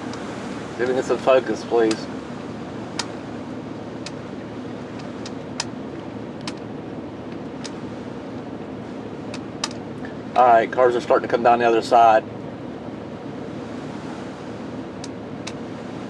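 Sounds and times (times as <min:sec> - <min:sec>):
motorhome engine idling: 0:00.0 - 0:16.0
strong wind: 0:00.0 - 0:16.0.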